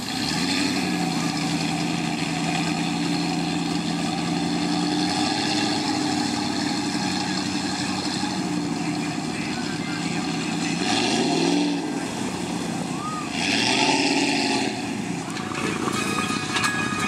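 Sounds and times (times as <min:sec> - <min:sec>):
tires through mud and water: 0:00.0 - 0:17.0
truck engine running: 0:00.0 - 0:17.0.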